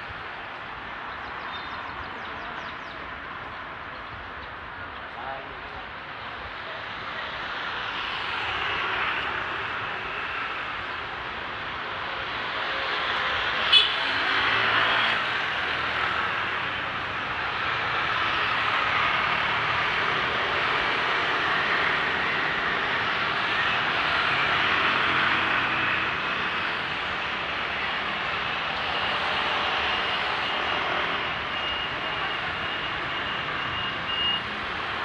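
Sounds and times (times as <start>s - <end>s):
cars and motorbikes driving past: 6.0s - 35.0s.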